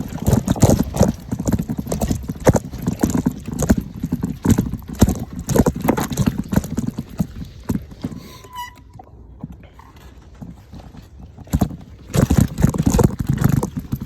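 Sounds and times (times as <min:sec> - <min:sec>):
bike rattling over dirt trail: 0:00.0 - 0:14.0.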